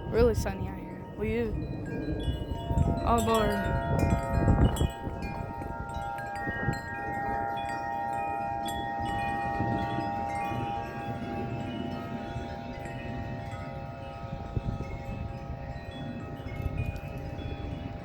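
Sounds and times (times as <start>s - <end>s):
low wind rumble: 0.0s - 18.0s
wind chimes ringing: 0.0s - 18.0s.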